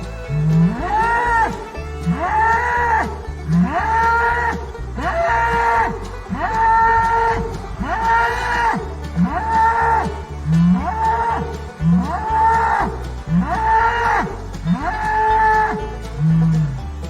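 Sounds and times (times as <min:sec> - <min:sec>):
ox mooing: 0:00.0 - 0:17.0.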